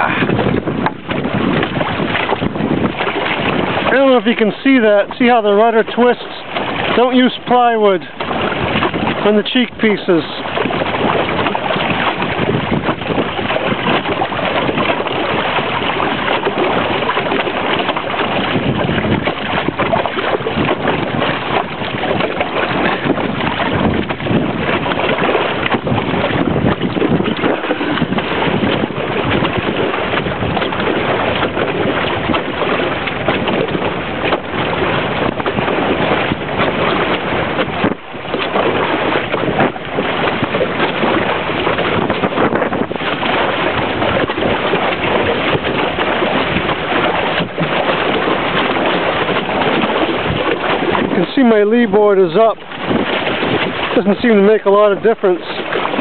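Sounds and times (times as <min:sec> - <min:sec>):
water rushing along a hull: 0:00.0 - 0:56.0
wind buffeting microphone: 0:00.0 - 0:56.0.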